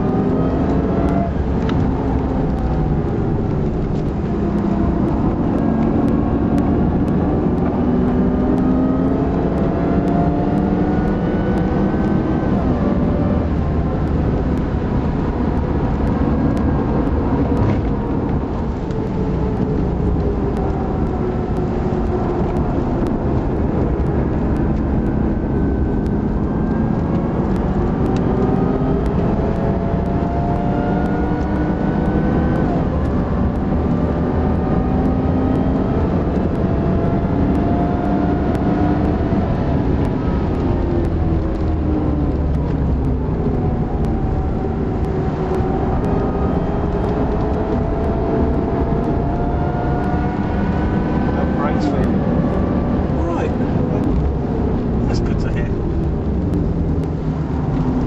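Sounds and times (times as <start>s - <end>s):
car engine revving: 0.0s - 58.0s
road and tyre noise: 0.0s - 58.0s.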